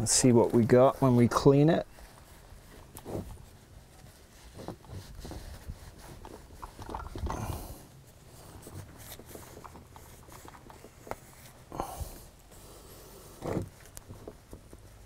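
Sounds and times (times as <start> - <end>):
towel rubbing inside wheel bearing: 0.1 - 15.0.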